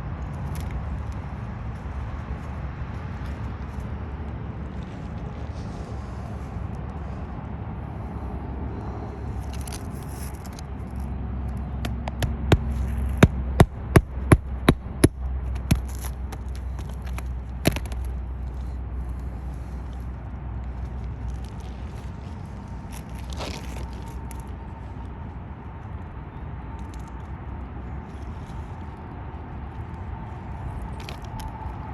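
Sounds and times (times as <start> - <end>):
steady low rumble: 0.0 - 31.9.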